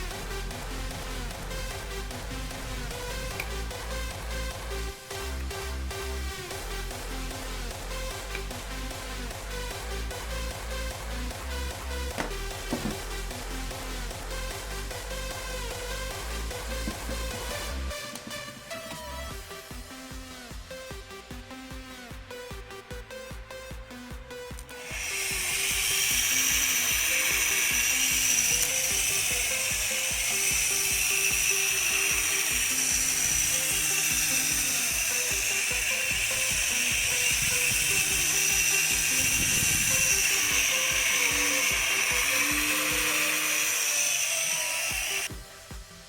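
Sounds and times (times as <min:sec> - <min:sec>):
grinder motor whine: 0:00.0 - 0:46.0.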